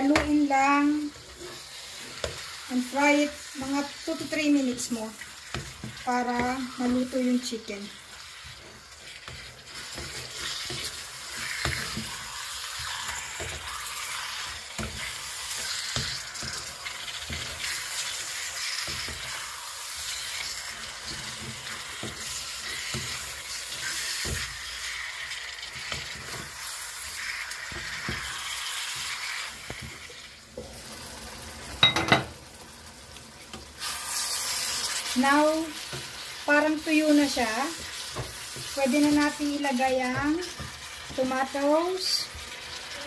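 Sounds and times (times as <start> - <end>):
spatula scraping and knocking pan: 0.0 - 30.8, 33.5 - 42.9
chicken sizzling in oil: 0.0 - 43.0.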